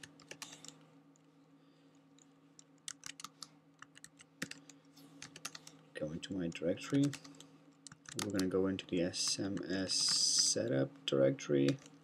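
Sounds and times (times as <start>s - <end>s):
faint keyboard typing: 0.0s - 1.3s, 2.1s - 10.6s, 11.6s - 12.0s.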